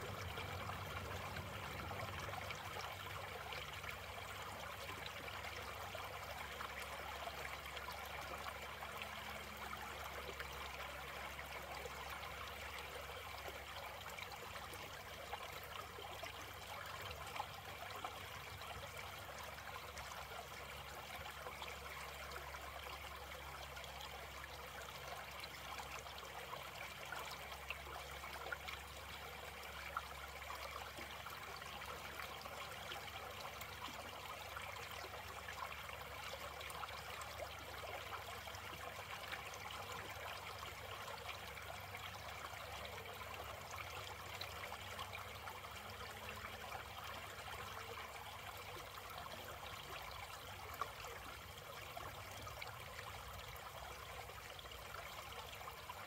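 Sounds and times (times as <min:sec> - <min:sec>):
creek water babbling: 0:00.0 - 0:56.0.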